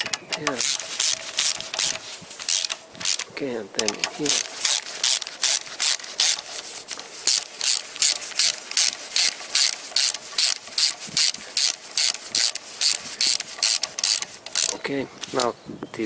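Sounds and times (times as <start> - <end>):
ratchet wrench clicking: 0.0 - 6.5, 7.2 - 14.8.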